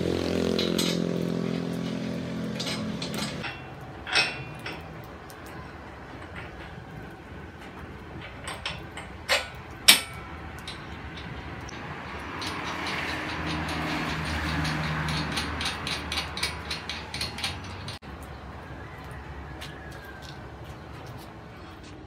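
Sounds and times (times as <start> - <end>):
metal clanks and clinks: 0.0 - 18.4.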